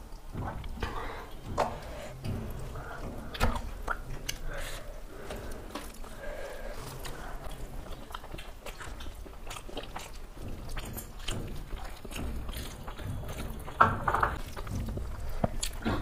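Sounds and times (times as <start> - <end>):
people chewing food: 0.0 - 16.0
mouth clicks and smacks: 0.1 - 16.0.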